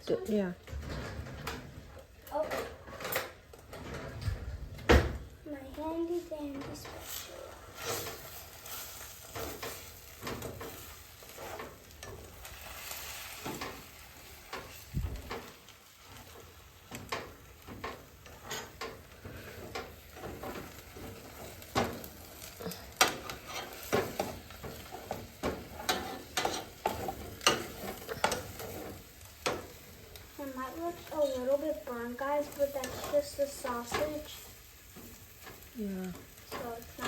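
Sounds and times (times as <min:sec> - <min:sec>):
food sizzling: 0:00.0 - 0:37.0
spatula scraping and tapping pan: 0:05.7 - 0:37.0.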